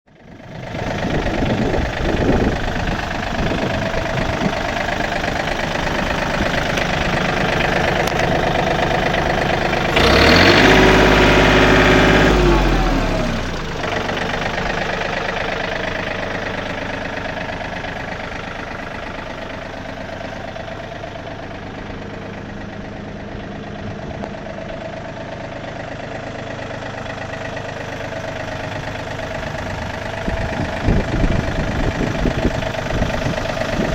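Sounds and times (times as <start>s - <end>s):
tractor diesel engine revving: 0.2s - 33.9s.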